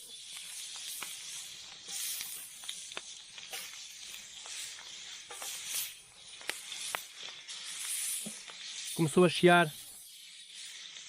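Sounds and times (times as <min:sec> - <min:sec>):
fat popping and crackling: 0:00.0 - 0:09.9
meat sizzling in a frying pan: 0:00.0 - 0:11.0.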